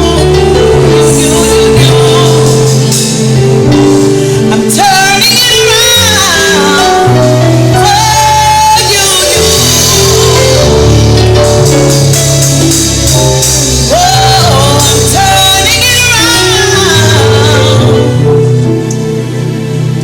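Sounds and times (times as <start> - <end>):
solo voice singing: 0.0 - 11.3, 13.7 - 18.6
sustained instrumental chords: 0.0 - 20.0.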